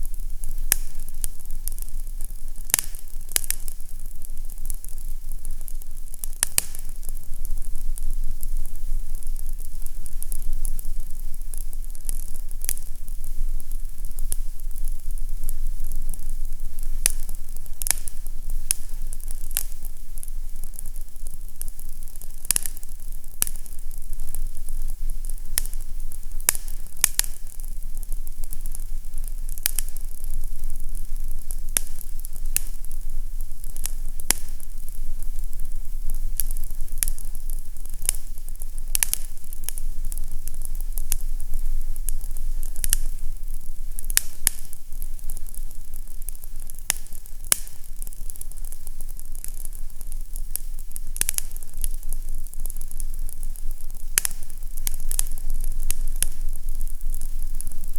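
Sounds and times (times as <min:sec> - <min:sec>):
fire crackling: 0:00.0 - 0:57.9
soft hiss: 0:00.0 - 0:57.9.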